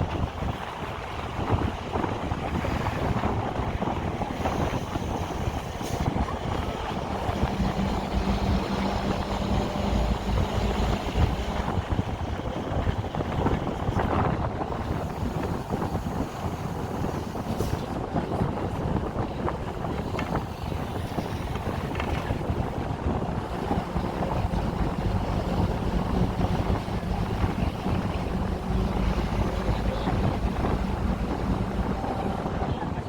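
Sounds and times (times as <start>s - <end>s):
steady engine hum: 0.0s - 33.0s
street noise: 0.0s - 33.0s
wind buffeting microphone: 0.0s - 33.0s.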